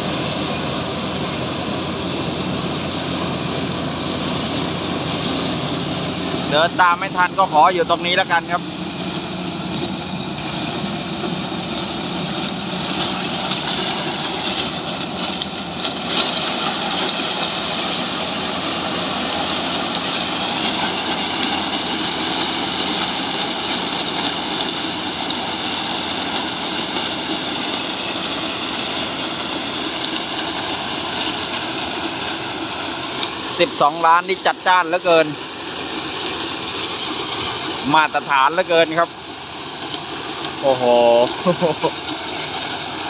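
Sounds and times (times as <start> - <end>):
diesel engine drone: 0.0 - 43.0
rushing chopped cane: 0.0 - 43.0.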